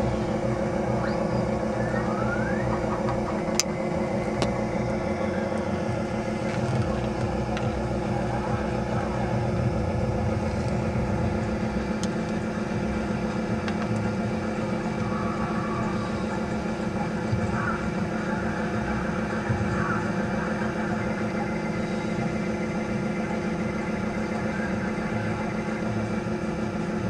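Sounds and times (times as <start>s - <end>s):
mechanical hum with rumble: 0.0s - 27.0s.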